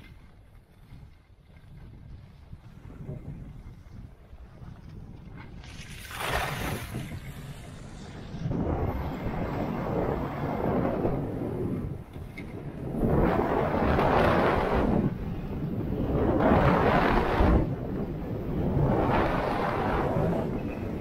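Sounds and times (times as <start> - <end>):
skis scraping over snow: 0.0 - 21.0
wind rumble on microphone: 0.0 - 21.0.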